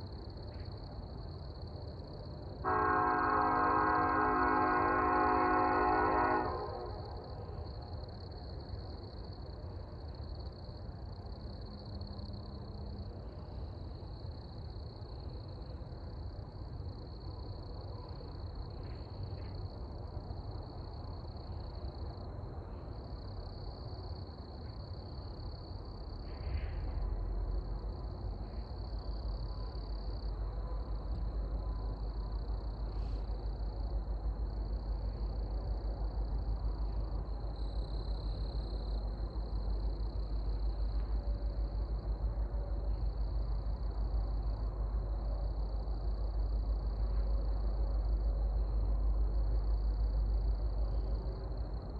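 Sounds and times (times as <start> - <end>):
freight train rumble: 0.0 - 51.9.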